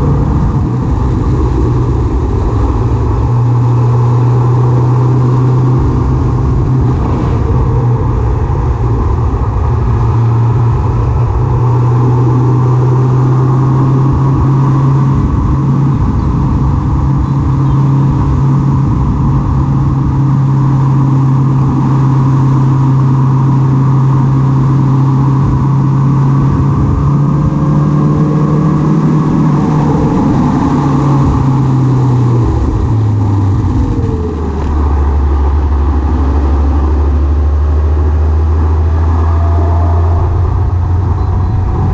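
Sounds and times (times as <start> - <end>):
road and wind noise: 0.0 - 41.9
vehicle engine running: 0.0 - 41.9.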